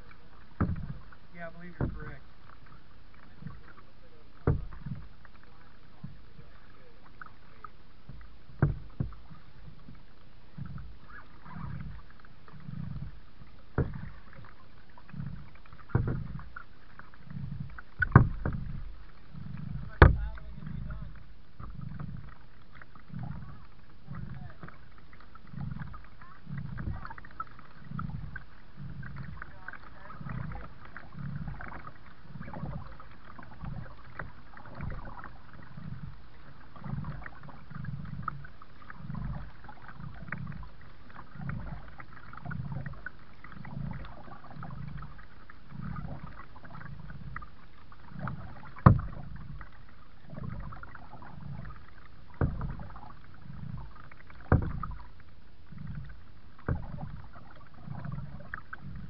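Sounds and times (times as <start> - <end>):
kayak paddle strokes in water: 0.0 - 59.0.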